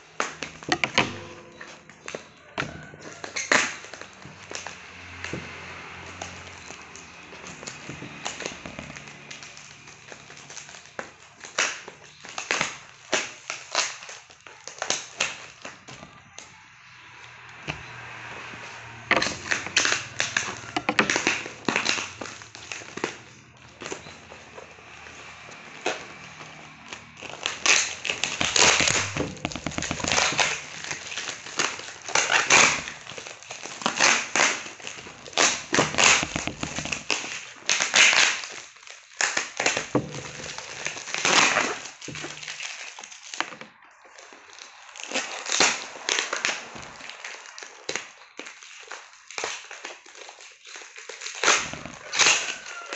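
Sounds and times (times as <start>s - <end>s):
plastic wrapping crinkling: 0.0s - 52.9s.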